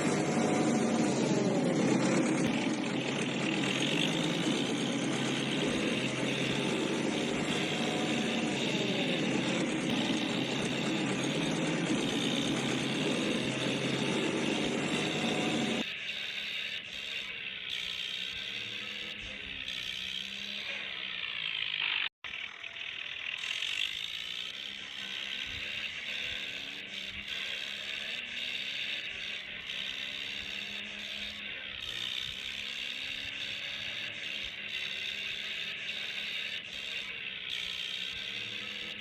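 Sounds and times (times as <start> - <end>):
toy tractor motor whirring: 0.0 - 39.0.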